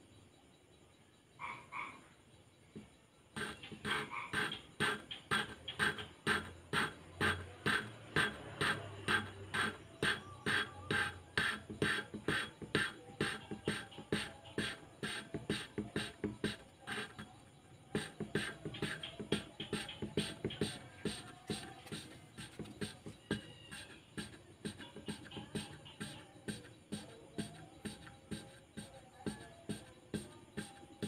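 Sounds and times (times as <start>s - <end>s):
valve lapping gritty rubbing: 3.4s - 17.3s, 18.0s - 30.8s.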